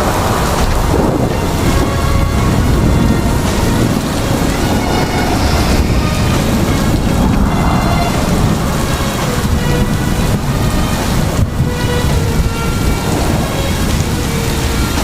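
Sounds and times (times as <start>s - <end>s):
low rumble: 0.0s - 14.7s
heavy rain: 0.0s - 15.0s
faint sustained music notes: 0.4s - 15.0s.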